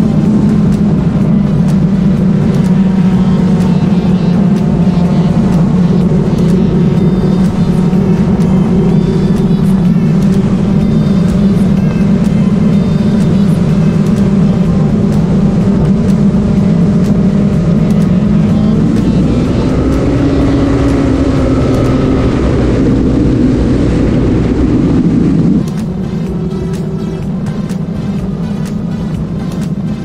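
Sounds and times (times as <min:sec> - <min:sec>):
wind on microphone: 0:00.0 - 0:29.9
motorcycle engine running: 0:00.0 - 0:30.0.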